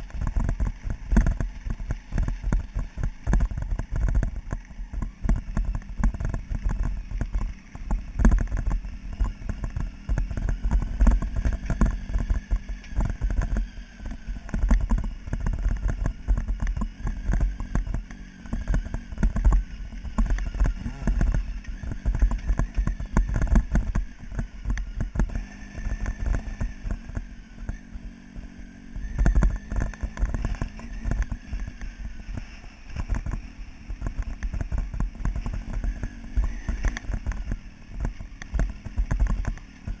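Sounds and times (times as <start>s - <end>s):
knocks and rattles over stones: 0.0s - 27.8s, 29.0s - 40.0s
motorcycle engine: 0.0s - 40.0s.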